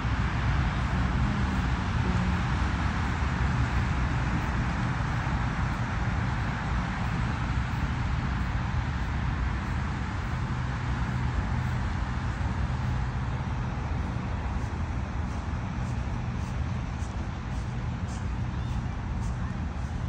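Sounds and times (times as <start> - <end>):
road traffic rumble: 0.0 - 20.0
wind on microphone: 0.0 - 20.0.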